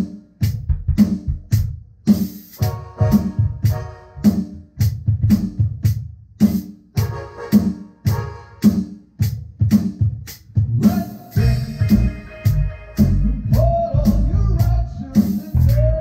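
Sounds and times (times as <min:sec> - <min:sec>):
band instruments: 0:00.0 - 0:16.0
electronic drum kit groove: 0:00.0 - 0:16.0.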